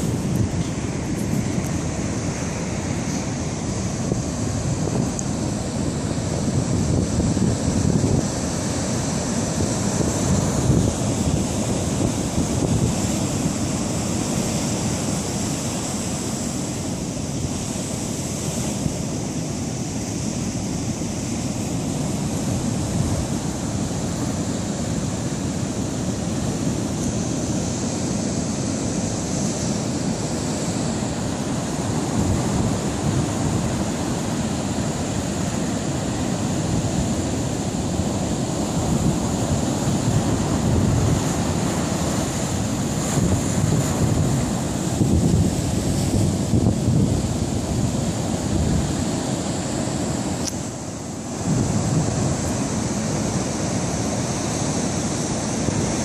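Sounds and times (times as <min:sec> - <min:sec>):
waves crashing on rocky beach: 0:00.0 - 0:56.0.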